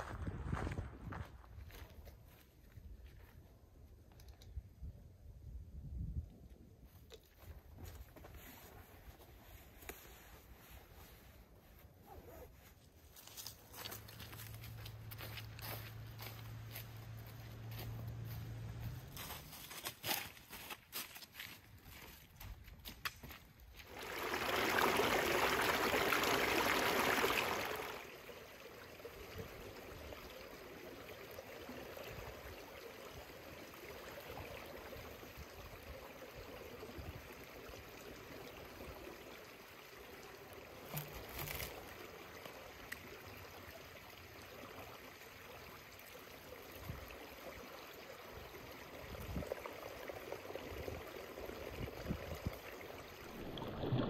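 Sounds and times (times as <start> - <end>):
creek running over rocks: 6.9 - 54.0.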